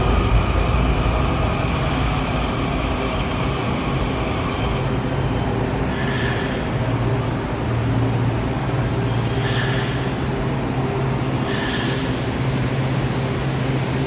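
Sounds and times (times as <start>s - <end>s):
subway train rolling rumble: 0.0s - 14.0s.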